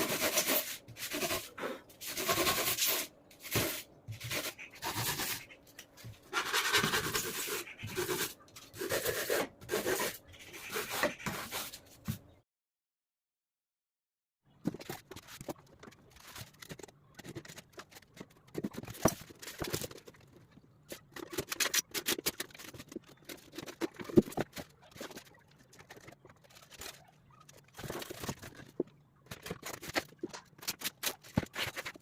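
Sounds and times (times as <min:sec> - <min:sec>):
materials handled by hand: 0:00.0 - 0:12.4, 0:14.5 - 0:32.0.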